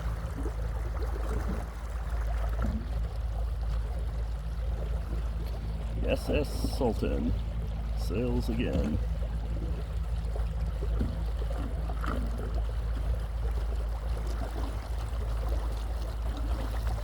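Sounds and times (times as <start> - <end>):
steady low rumble: 0.0 - 17.0
water trickling along boat hull: 0.0 - 17.0.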